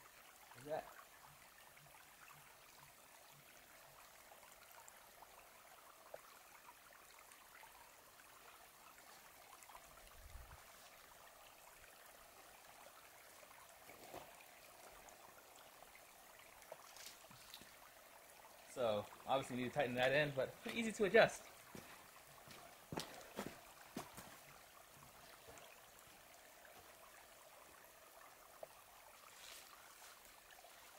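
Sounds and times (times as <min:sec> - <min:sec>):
faint open-air hiss: 0:00.0 - 0:30.9.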